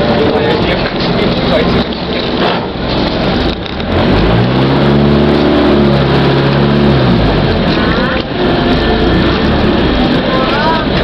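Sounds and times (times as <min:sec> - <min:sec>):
boat engine running hard: 0:00.0 - 0:11.0.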